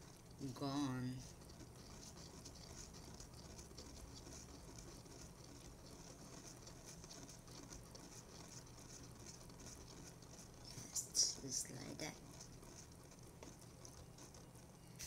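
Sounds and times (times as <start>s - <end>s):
whisk stirring milk in bowl: 0.0s - 15.0s.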